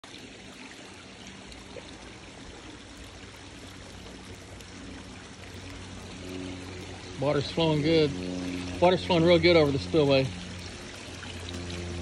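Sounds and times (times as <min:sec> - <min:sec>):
water pouring into pool: 0:00.0 - 0:12.0.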